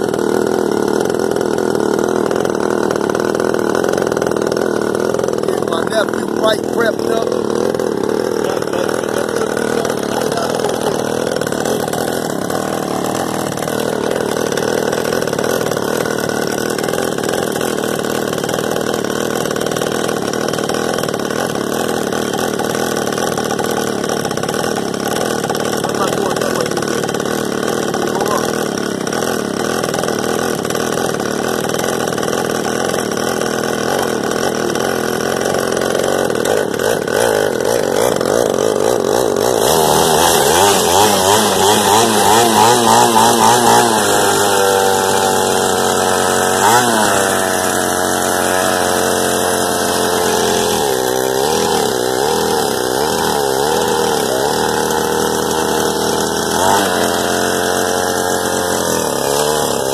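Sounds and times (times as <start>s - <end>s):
small quad engine idling and revving: 0.0s - 59.9s.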